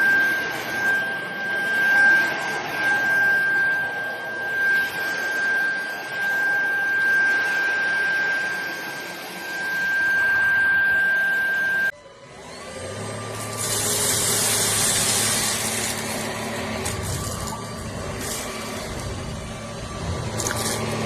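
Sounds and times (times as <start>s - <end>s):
stick vacuum cleaner running: 0.0s - 21.0s.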